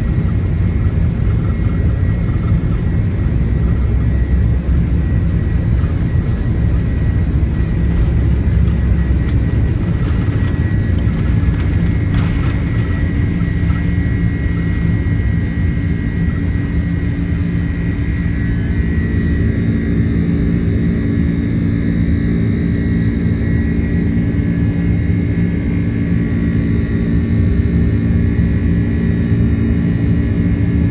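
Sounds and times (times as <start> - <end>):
jet engines roaring at takeoff: 0.0 - 30.9
steady humming tones: 0.0 - 30.9.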